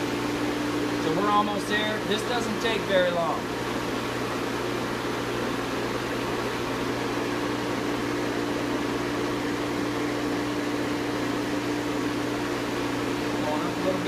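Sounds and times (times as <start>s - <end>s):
recovery machine humming: 0.0s - 14.0s.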